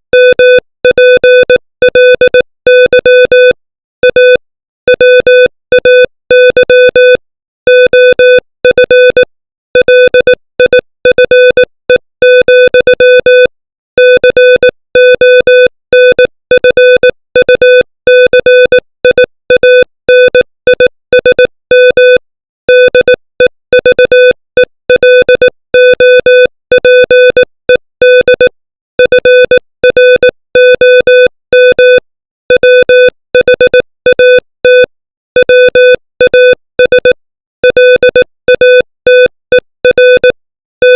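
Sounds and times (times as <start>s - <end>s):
morse code beeps: 0.2s - 23.2s, 23.8s - 40.9s.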